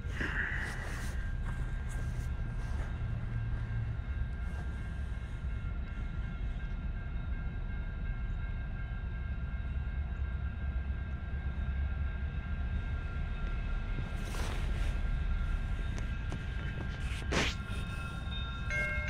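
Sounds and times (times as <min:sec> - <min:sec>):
distant diesel locomotives rumbling: 0:00.0 - 0:19.0.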